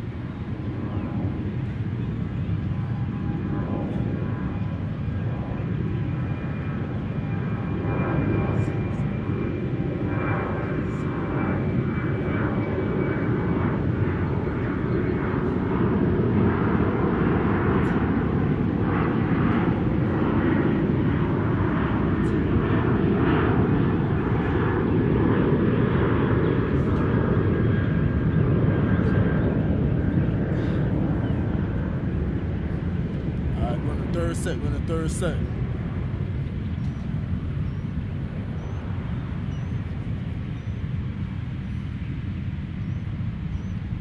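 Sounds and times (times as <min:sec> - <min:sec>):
airplane rumble: 0:00.0 - 0:44.0.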